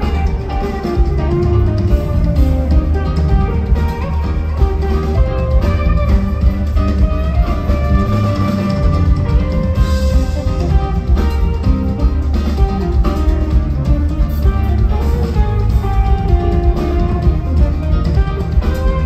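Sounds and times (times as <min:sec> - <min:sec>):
drums: 0:00.0 - 0:19.0
electric guitar: 0:00.0 - 0:19.0
heavy bass: 0:00.0 - 0:19.0
live band music: 0:00.0 - 0:19.0.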